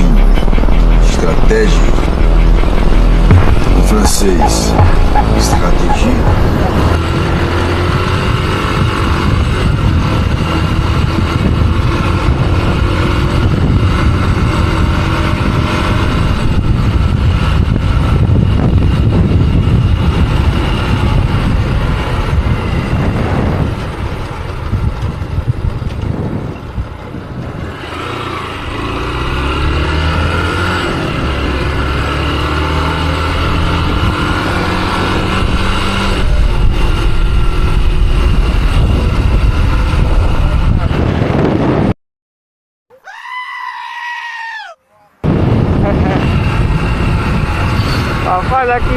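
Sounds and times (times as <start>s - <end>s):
motorcycle engine running: 0.0s - 41.6s
road and wind rush: 0.0s - 42.0s, 43.1s - 48.9s.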